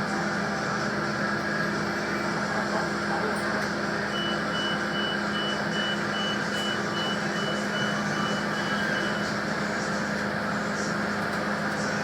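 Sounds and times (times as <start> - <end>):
railcar engine humming: 0.0 - 12.0.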